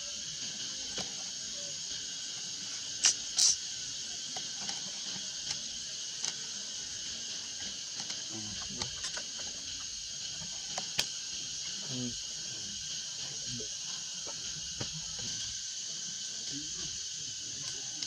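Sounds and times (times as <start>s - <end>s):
insect chorus drone: 0.0s - 18.0s.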